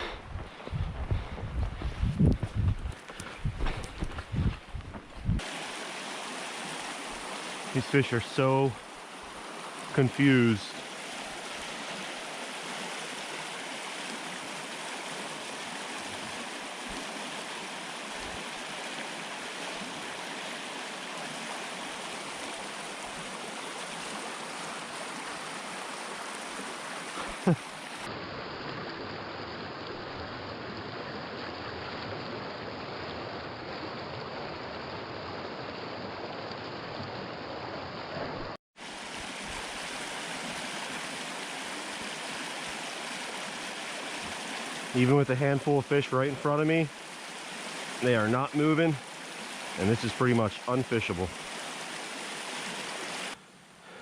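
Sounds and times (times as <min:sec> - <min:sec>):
stream water rushing: 0:02.4 - 0:54.0.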